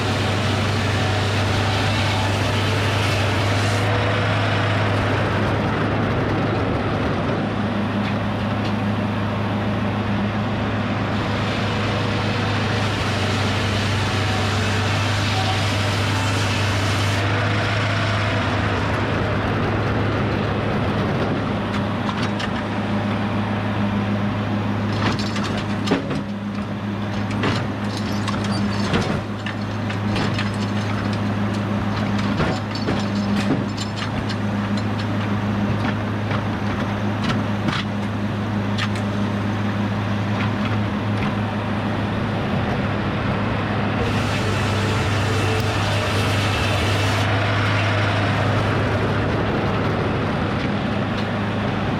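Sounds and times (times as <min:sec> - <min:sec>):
sawmill engine humming: 0:00.0 - 0:24.9, 0:25.6 - 0:51.9.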